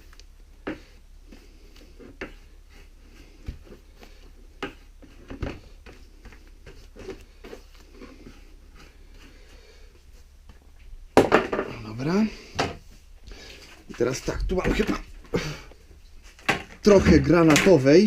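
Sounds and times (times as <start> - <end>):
low steady hum: 0.0 - 18.0
rustling and scuffling: 0.0 - 18.0.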